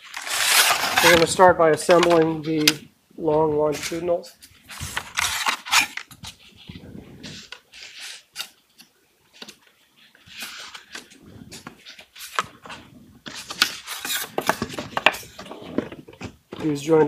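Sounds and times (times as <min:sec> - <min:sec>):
wooden pieces sliding and scraping: 0:00.0 - 0:17.0.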